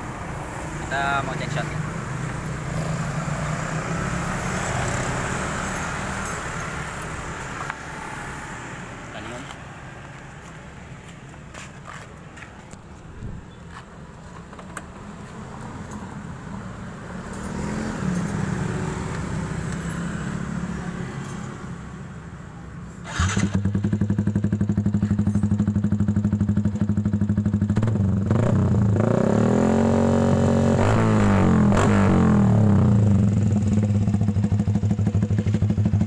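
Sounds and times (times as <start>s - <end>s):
motorcycle engine idling and revving: 0.0s - 36.0s.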